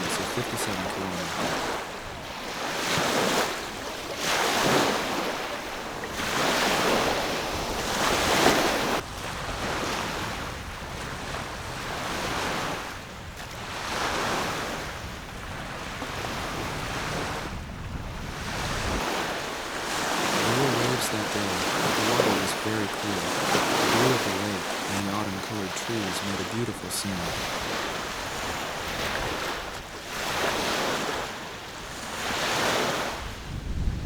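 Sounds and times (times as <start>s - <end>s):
small waves washing onto shore: 0.0s - 34.0s
wind: 0.0s - 34.0s.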